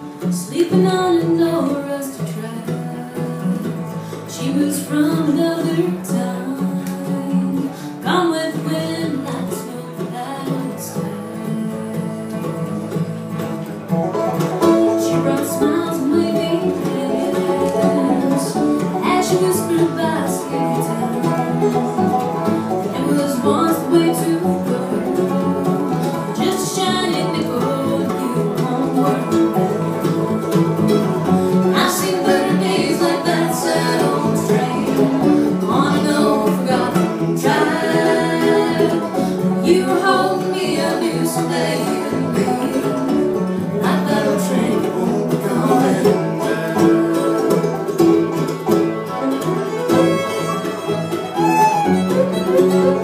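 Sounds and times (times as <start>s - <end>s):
bluegrass band playing: 0.0s - 53.0s.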